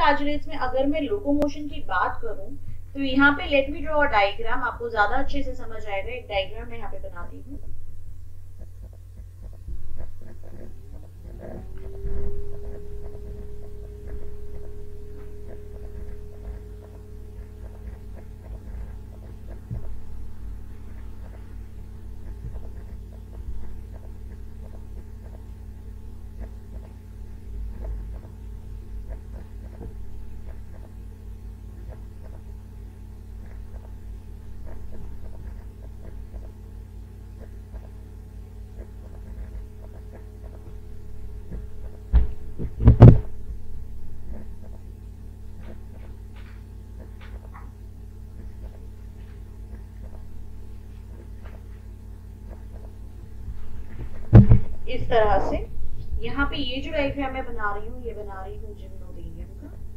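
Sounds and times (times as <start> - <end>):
electrical hum: 0.0 - 59.9
steady tone: 0.0 - 59.9
low rumble: 6.7 - 59.9.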